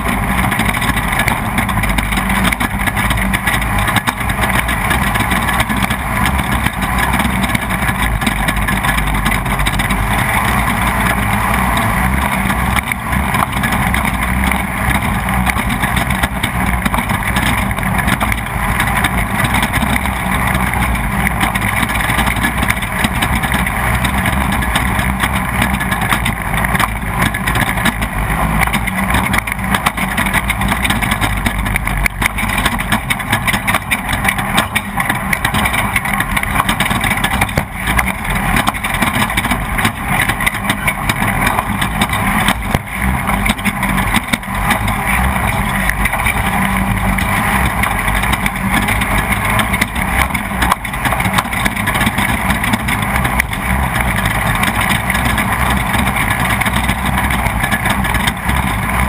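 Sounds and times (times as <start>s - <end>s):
race car engine running hard: 0.0s - 59.0s
vehicle rattling and knocking: 0.0s - 59.0s.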